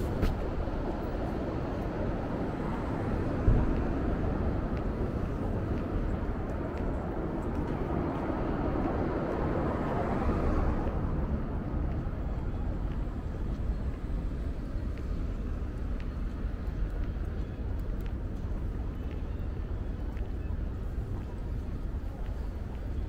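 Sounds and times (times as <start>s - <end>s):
low rumble of street traffic: 0.0s - 23.0s.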